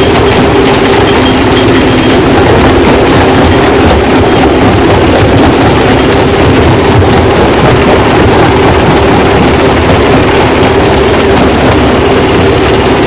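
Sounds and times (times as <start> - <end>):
rock-crushing machinery din: 0.0 - 13.0.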